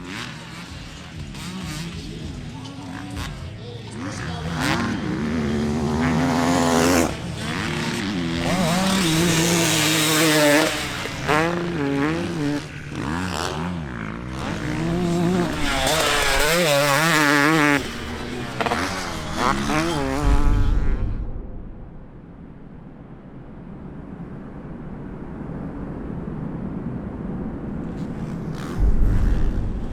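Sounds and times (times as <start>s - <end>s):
motocross bike engines revving: 0.0s - 22.0s, 27.9s - 29.9s.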